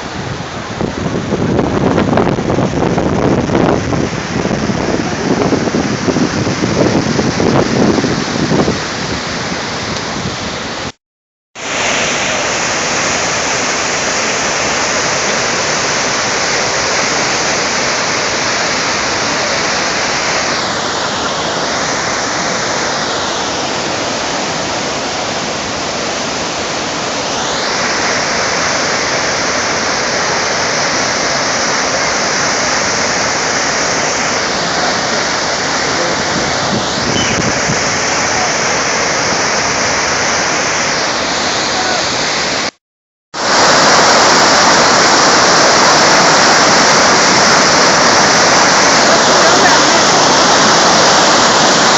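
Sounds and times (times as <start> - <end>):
waterfall rushing: 0.0 - 11.0, 11.6 - 42.8, 43.4 - 51.9.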